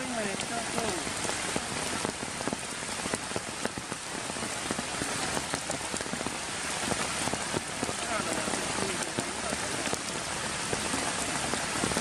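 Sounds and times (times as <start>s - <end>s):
rain falling on puddles: 0.0s - 12.0s.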